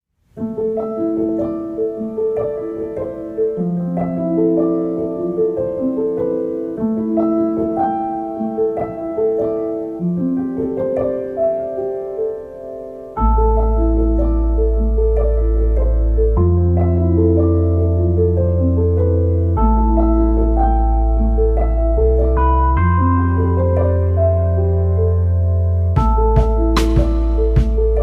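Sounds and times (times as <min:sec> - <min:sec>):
gentle piano melody: 0:00.2 - 0:28.0.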